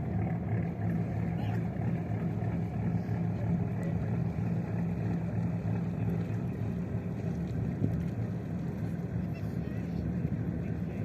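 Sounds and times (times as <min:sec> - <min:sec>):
ship engines rumbling: 0:00.0 - 0:11.0.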